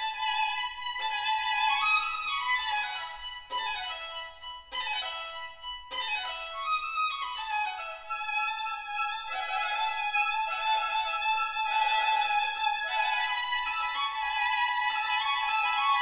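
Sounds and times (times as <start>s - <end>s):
violin music: 0.0s - 16.0s.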